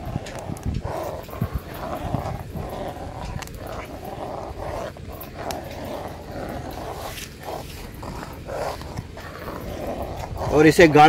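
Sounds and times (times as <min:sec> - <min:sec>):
fire crackles: 0:00.0 - 0:11.0
fire low rumble: 0:00.0 - 0:11.0.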